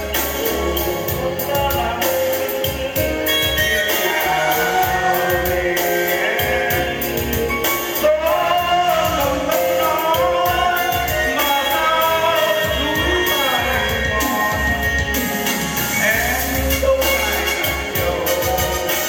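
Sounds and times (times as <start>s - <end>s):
instrumental backing music: 0.0s - 19.0s
man singing into a microphone: 0.0s - 19.0s.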